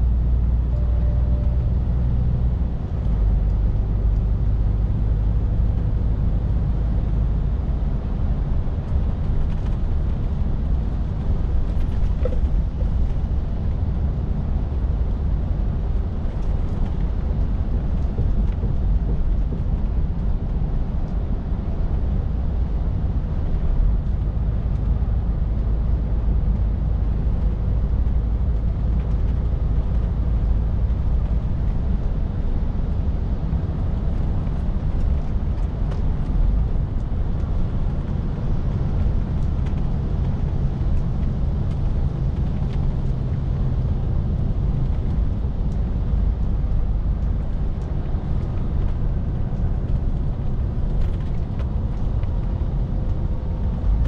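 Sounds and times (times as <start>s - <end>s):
lorry diesel engine rumble: 0.0s - 54.0s
road noise: 0.0s - 54.0s.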